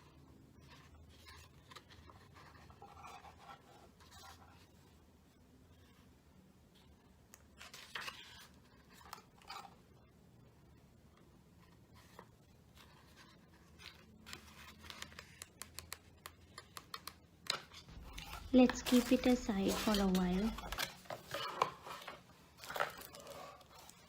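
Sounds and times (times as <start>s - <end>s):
paper and cardboard packaging handled: 0.0s - 5.1s, 6.7s - 9.8s, 11.6s - 24.0s.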